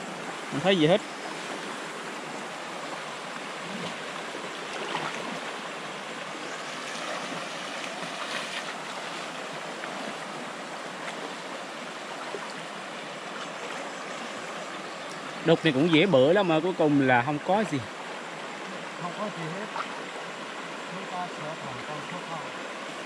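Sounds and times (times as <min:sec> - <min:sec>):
stream flowing over stones: 0:00.0 - 0:23.0.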